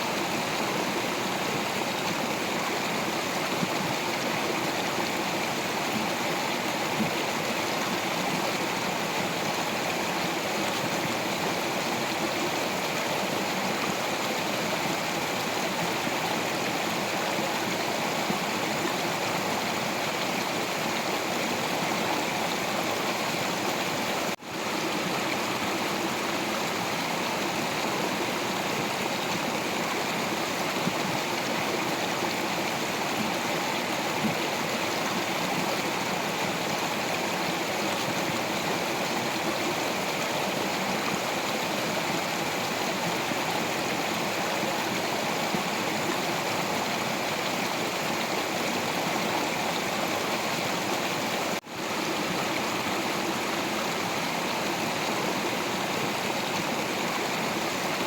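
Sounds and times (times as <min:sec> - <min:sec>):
water flowing over rocks: 0:00.0 - 0:58.0.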